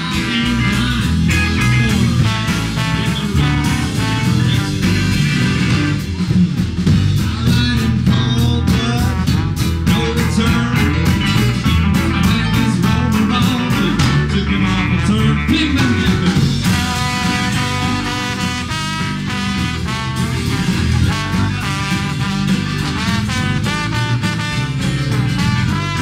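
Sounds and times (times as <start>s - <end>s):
drums keeping steady beat: 0.0s - 26.0s
rock band playing: 0.0s - 26.0s.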